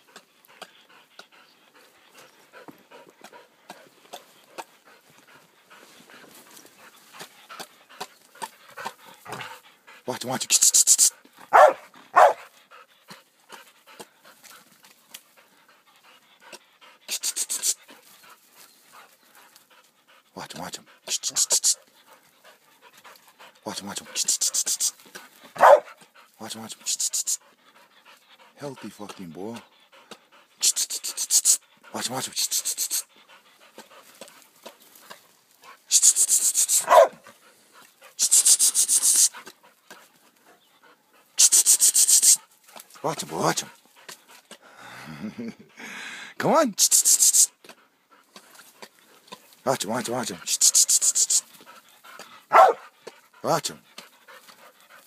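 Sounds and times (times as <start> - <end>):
dog panting: 0.0 - 55.0.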